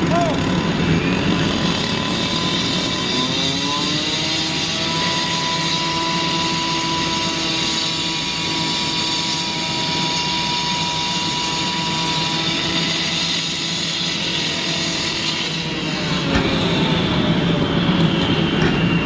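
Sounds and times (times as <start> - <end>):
constant high whine: 0.0 - 19.0
heavy diesel machinery running: 0.0 - 19.0.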